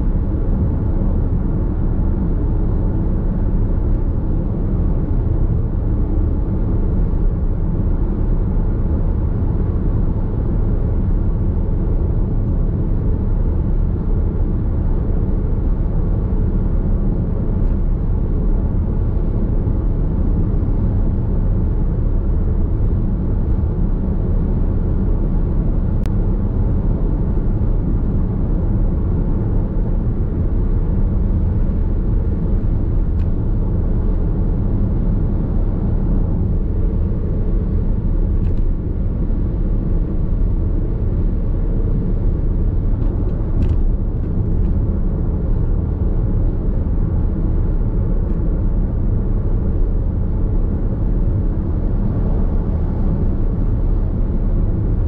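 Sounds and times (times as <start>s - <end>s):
road and tyre noise in car: 0.0s - 55.0s.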